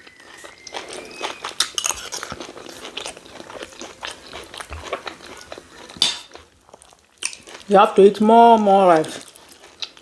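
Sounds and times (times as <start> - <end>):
person chewing crunchy food: 0.0 - 7.8, 9.0 - 10.0.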